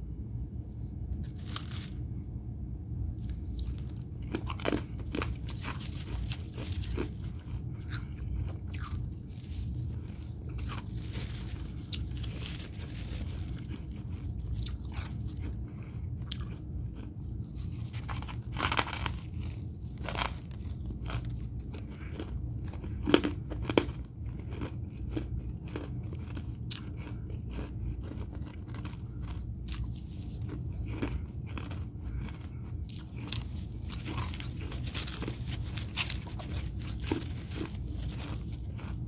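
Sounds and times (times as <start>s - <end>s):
frost being bitten and chewed: 1.0s - 2.3s, 3.0s - 39.0s.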